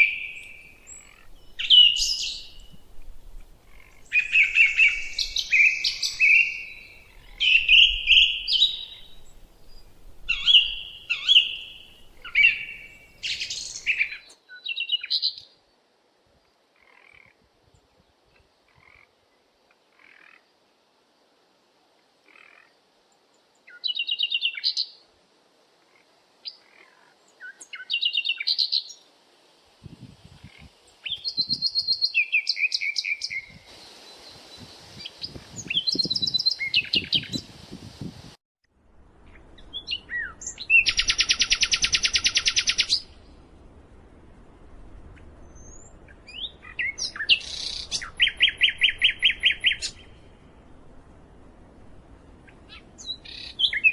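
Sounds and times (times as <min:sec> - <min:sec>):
songbirds chirping and trilling: 0:00.0 - 0:20.9, 0:22.2 - 0:25.1, 0:25.8 - 0:29.1, 0:30.0 - 0:37.6, 0:39.2 - 0:43.5, 0:45.0 - 0:51.4, 0:52.0 - 0:53.9.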